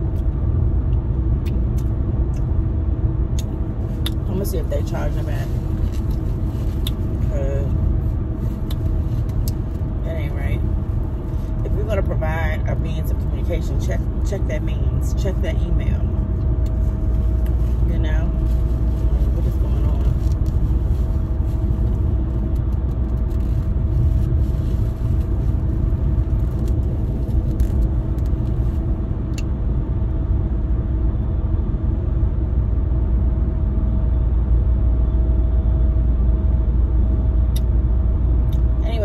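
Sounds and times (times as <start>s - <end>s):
car interior road rumble: 0.0s - 39.0s
faint steady whine: 0.0s - 39.0s.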